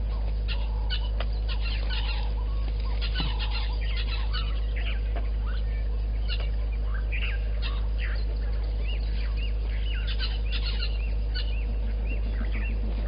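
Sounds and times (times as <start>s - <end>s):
steady low hum: 0.0s - 13.0s
wild birds chirping: 0.0s - 13.0s.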